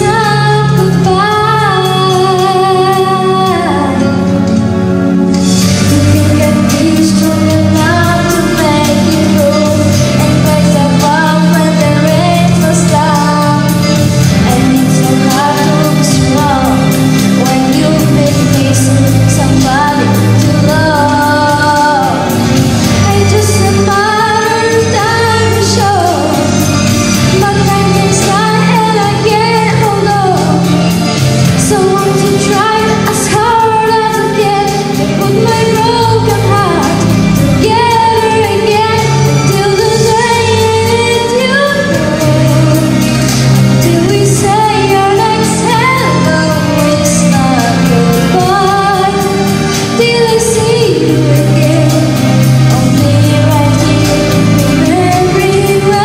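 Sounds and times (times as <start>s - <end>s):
girl singing into microphone: 0.0s - 4.4s, 5.5s - 56.0s
instrumental music with beat: 0.0s - 56.0s.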